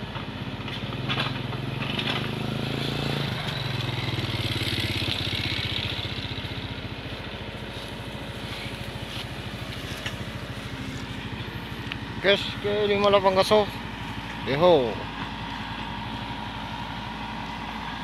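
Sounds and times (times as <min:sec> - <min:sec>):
backhoe diesel engine running: 0:00.0 - 0:18.0
motorcycle passing: 0:00.0 - 0:18.0.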